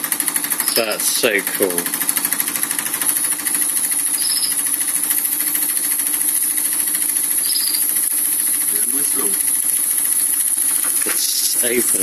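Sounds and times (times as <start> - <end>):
model steam engine chuffing: 0.0 - 12.0.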